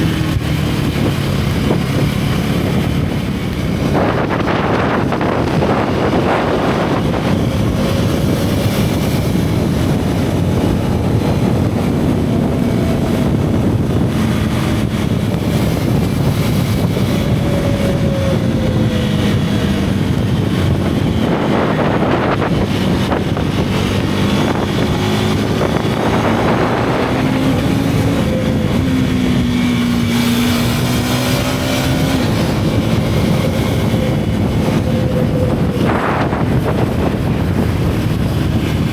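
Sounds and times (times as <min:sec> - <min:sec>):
motorcycle engine revving: 0:00.0 - 0:38.9
wind buffeting microphone: 0:00.0 - 0:38.9.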